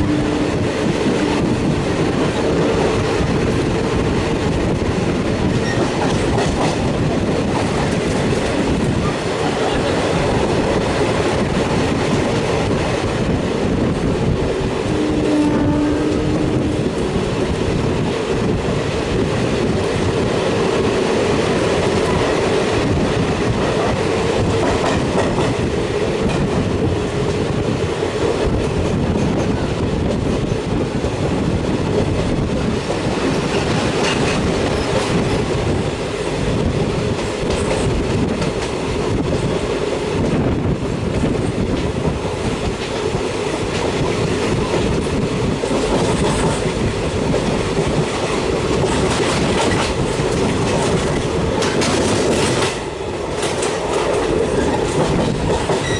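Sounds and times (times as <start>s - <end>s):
clickety-clack over rail joints: 0.0s - 55.9s
passenger train rumbling past: 0.0s - 55.9s.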